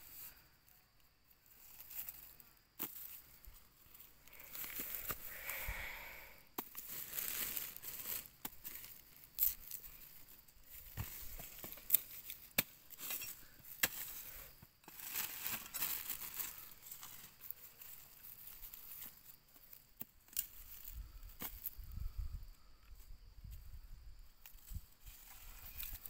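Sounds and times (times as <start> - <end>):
dry grass and leaves rustling: 0.0 - 26.0.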